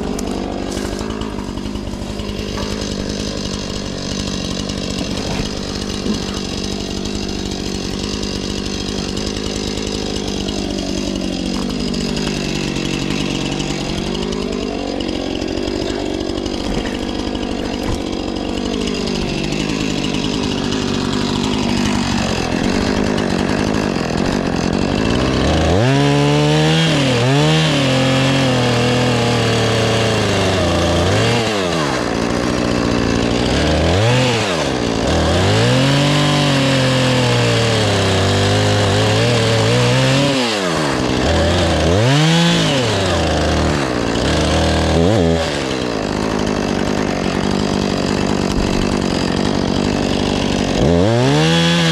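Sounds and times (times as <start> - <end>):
chainsaw cutting wood: 0.0 - 51.9
chainsaw engine revving: 0.0 - 51.9.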